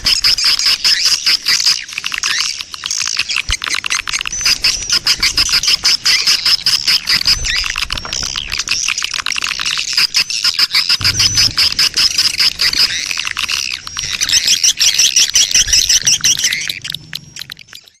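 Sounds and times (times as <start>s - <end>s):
rapid clicking bird calls: 0.0s - 18.0s
swiftlets chirping and twittering: 0.0s - 18.0s.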